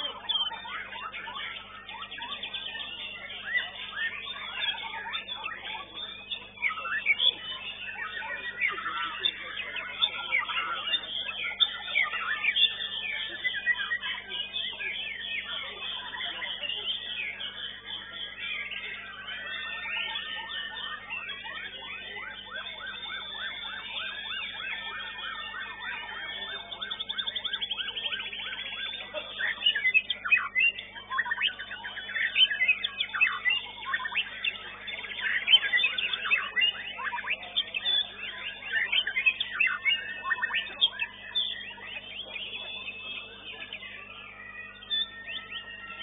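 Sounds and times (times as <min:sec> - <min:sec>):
songbird singing whistles: 0:00.0 - 0:46.0.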